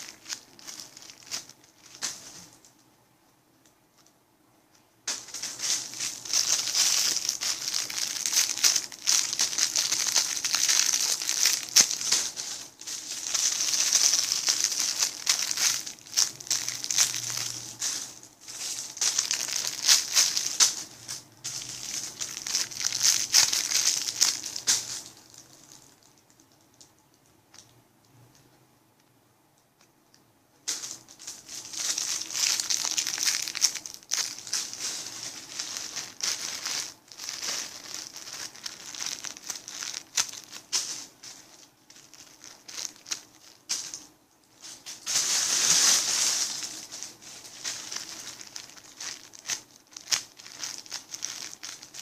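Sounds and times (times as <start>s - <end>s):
plastic crinkling: 0.0s - 3.0s, 4.8s - 27.8s, 30.6s - 52.0s.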